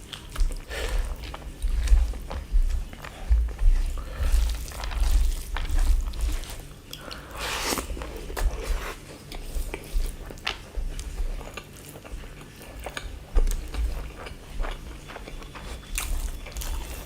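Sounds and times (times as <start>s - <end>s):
chewing and biting: 0.0s - 17.0s.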